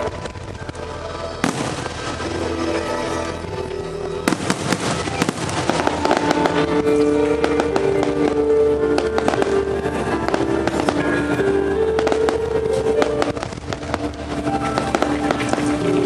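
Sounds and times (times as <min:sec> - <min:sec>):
fireworks bursting: 0:00.0 - 0:16.0
fireworks crackling: 0:00.0 - 0:16.0
music: 0:00.0 - 0:16.0.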